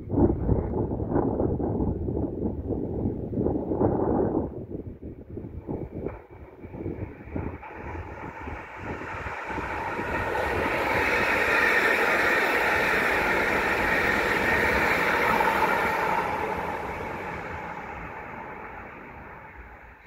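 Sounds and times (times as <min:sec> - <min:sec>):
train passing at speed: 0:02.1 - 0:20.0.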